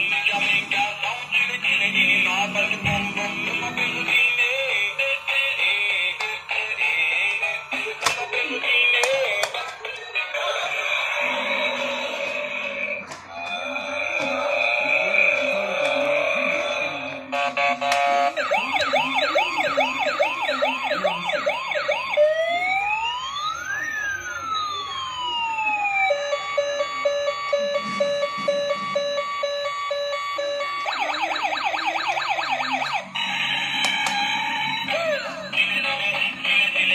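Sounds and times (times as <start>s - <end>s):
toy police siren: 0.0s - 36.9s.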